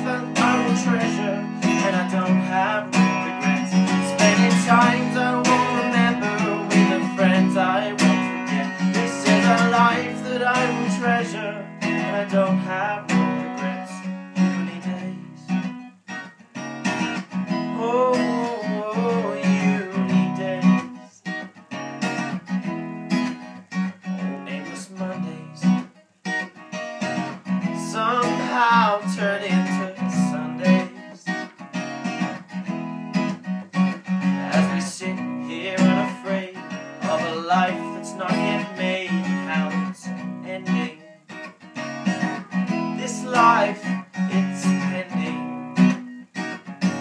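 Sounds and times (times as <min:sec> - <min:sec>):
acoustic guitar strumming: 0:00.0 - 0:47.0.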